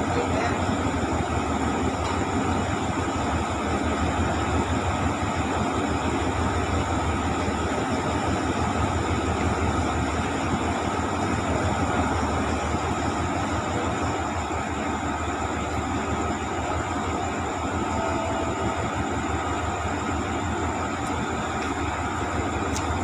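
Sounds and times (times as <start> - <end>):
locomotive engine idling: 0.0 - 23.0.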